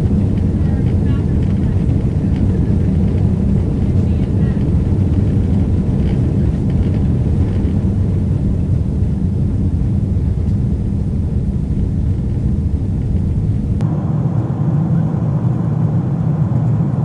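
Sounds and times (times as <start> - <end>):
jet engines and airflow rumbling: 0.0 - 17.0.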